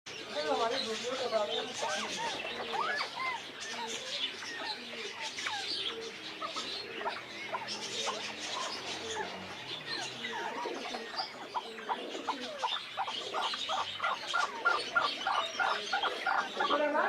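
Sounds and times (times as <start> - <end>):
quail chirping and calling: 0.1 - 17.0.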